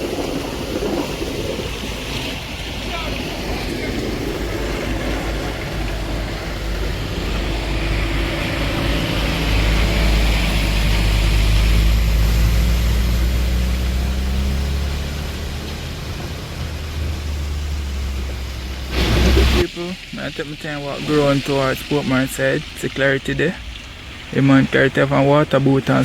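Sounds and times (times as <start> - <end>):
vehicle engine passing: 0.0 - 26.0.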